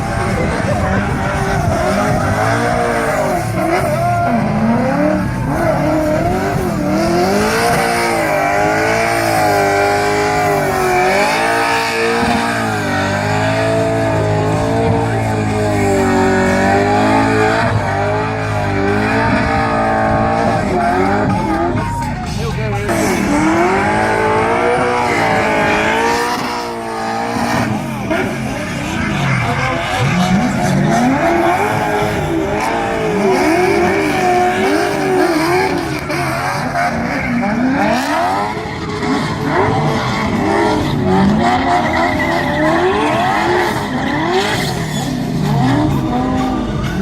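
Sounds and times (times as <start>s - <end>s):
car engine revving hard: 0.0s - 47.0s.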